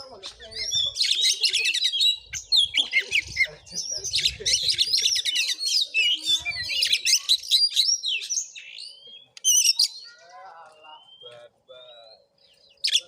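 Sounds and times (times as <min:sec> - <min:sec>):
bird singing whistles and chirps: 0:00.0 - 0:13.0.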